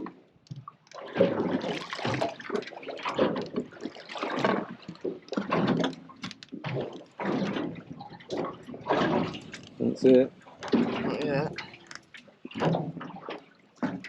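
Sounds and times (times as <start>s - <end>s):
water splashing beside boat: 0.0s - 14.0s.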